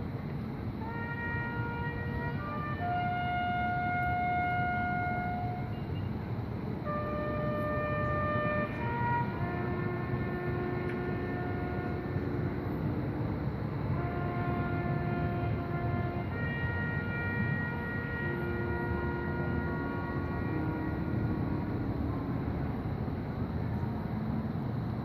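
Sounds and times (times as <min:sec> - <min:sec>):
marching band brass playing: 0:00.8 - 0:05.8, 0:06.8 - 0:22.8.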